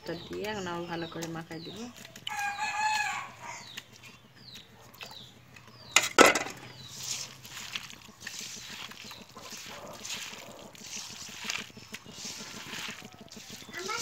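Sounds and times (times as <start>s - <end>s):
hand mixing wet food: 0.0s - 14.0s.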